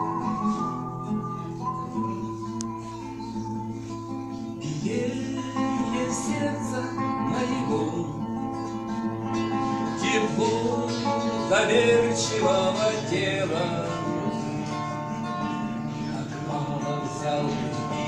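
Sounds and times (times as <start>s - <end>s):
person singing: 0.0s - 8.8s, 9.5s - 18.0s
acoustic guitar plucked and strummed: 0.0s - 18.0s.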